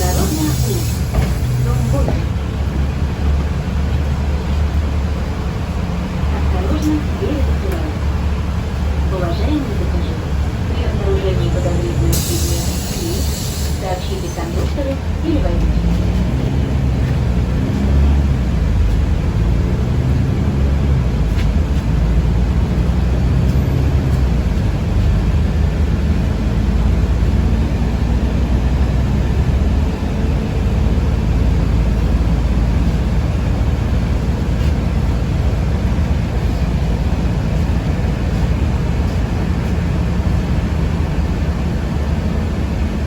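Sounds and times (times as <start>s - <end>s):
bus cabin rumble: 0.0s - 43.0s.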